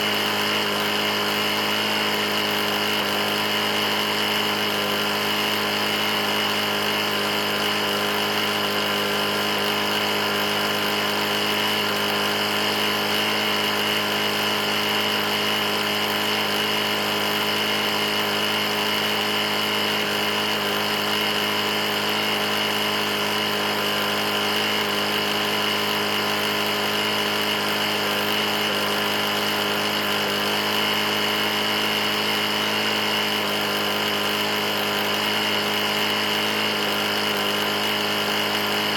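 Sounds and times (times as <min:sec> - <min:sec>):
lawn mower engine knocking: 0:00.0 - 0:38.9.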